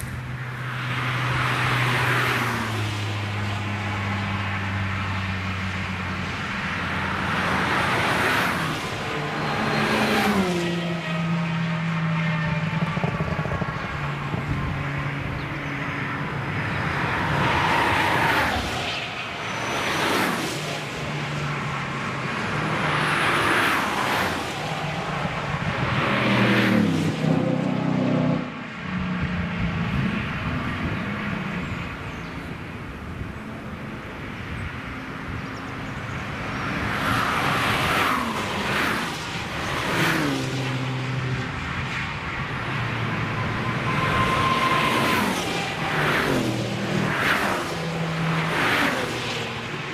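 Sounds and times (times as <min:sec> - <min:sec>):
race cars driving past: 0:00.0 - 0:33.0, 0:35.0 - 0:49.9.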